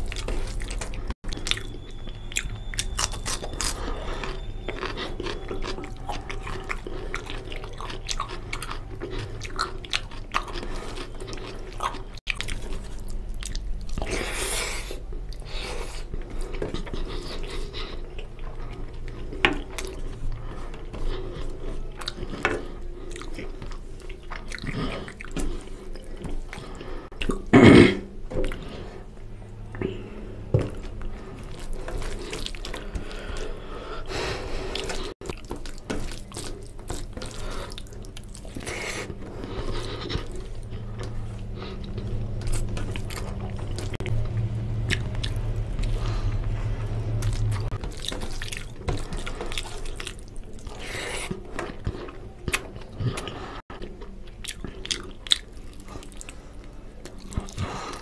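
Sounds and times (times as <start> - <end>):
wet chewing and mouth smacking: 0.0 - 27.5, 30.6 - 58.0.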